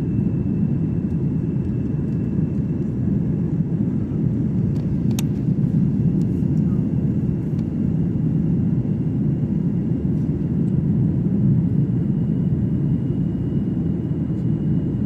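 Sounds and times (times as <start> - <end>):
airliner engine rumble in cabin: 0.0 - 15.0.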